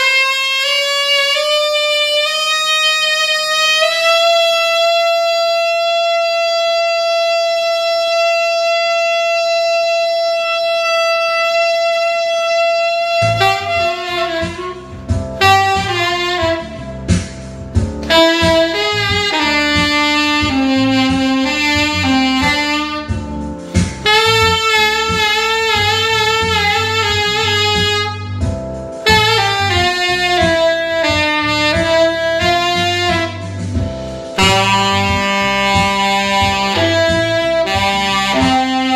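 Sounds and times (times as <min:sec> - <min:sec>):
jazz backing track: 0:00.0 - 0:38.9
tenor saxophone playing jazz: 0:00.0 - 0:38.9.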